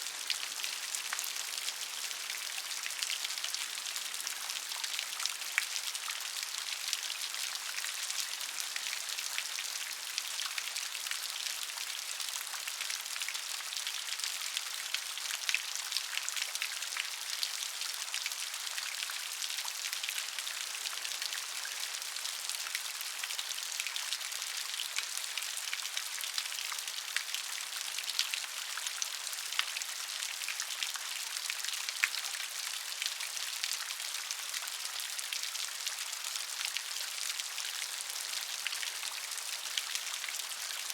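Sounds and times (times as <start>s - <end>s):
gentle rain pattering: 0.0s - 40.9s.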